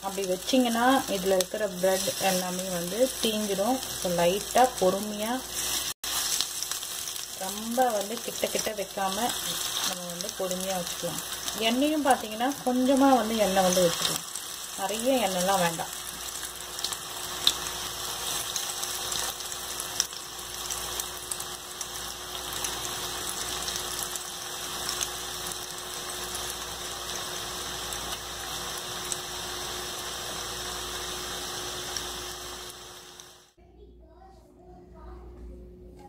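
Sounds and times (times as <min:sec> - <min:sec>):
food sizzling in oil: 0:00.0 - 0:33.6.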